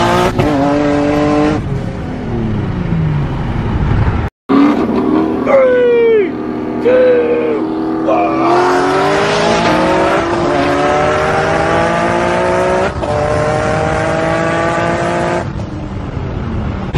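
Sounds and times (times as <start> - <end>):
car engine accelerating: 0.0 - 15.6.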